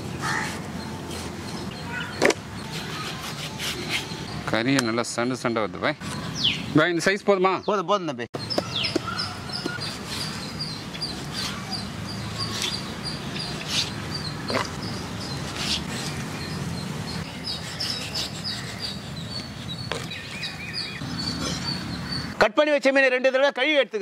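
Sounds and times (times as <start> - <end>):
small birds chirping: 0.0 - 22.4.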